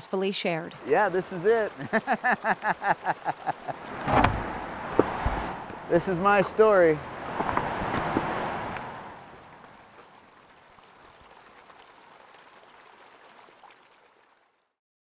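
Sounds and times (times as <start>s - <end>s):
river water rushing: 0.7s - 14.0s.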